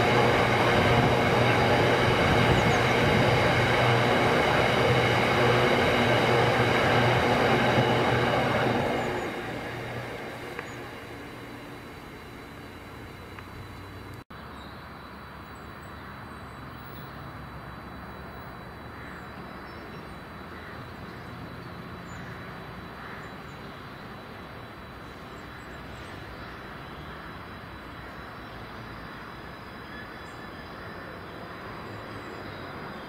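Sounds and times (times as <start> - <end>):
diesel locomotive engine drone: 0.0 - 33.0.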